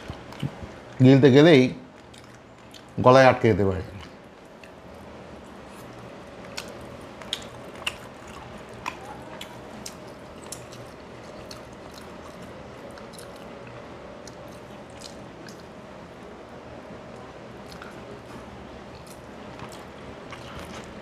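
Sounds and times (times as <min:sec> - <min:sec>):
man chewing with mouth clicks: 0:00.0 - 0:01.0, 0:01.9 - 0:03.0, 0:03.9 - 0:16.3, 0:17.6 - 0:21.0
faint steady hum: 0:00.0 - 0:21.0.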